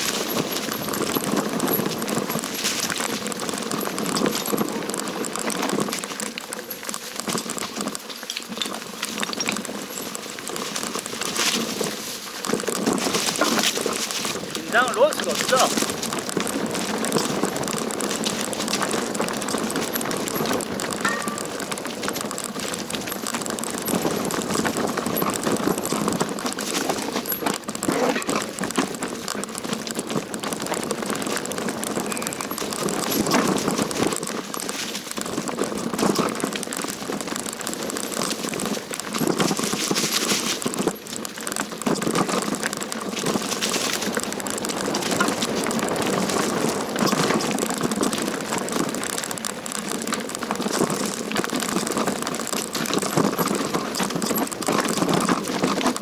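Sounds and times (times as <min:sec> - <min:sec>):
bike rattling and clattering: 0:00.0 - 0:56.0
tyres crunching over stones: 0:00.0 - 0:56.0.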